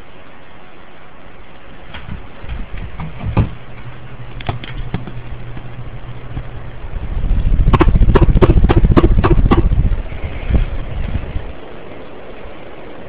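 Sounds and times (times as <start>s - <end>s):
air buffeting microphone: 0.0s - 13.0s
fan motor hum: 0.0s - 13.0s.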